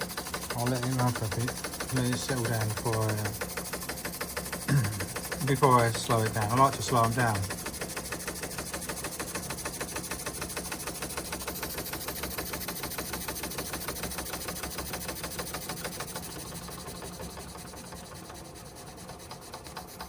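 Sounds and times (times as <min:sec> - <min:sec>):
steam engine beat: 0:00.0 - 0:20.0
steam hissing: 0:00.0 - 0:20.0.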